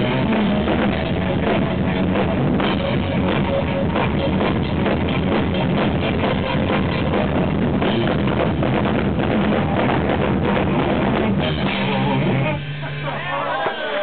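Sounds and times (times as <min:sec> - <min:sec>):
distorted live band playing: 0:00.0 - 0:14.0.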